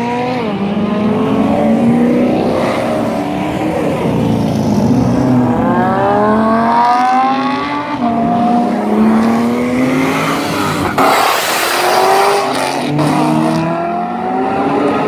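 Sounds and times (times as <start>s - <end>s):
car engines accelerating hard: 0.0s - 15.0s.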